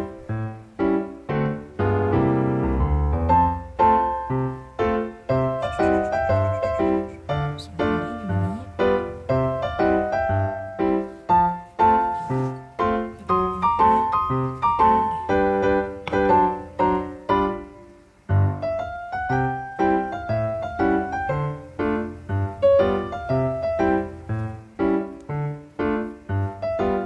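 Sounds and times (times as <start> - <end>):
piano melody: 0.0 - 27.0.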